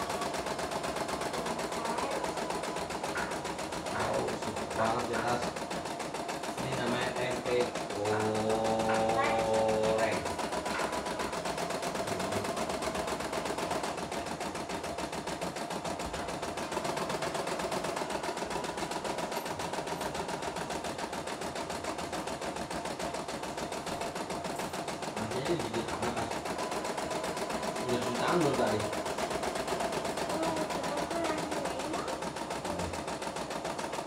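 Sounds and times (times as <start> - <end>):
embroidery machine needle rattling: 0.0 - 34.0.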